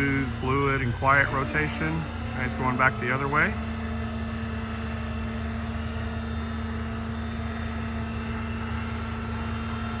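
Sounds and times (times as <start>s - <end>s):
constant hydraulic hum: 0.0s - 10.0s
truck engine idling: 0.0s - 10.0s.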